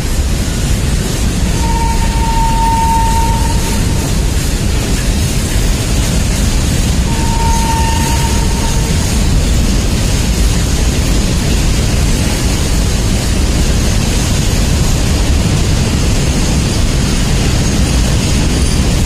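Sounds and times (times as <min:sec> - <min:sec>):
freight train passing: 0:00.0 - 0:19.0.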